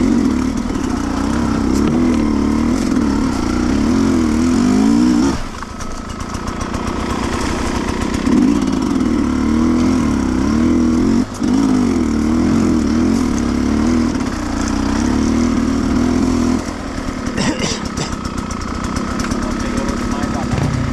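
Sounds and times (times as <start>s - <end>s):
two-stroke motorcycle engine revving: 0.0s - 20.9s.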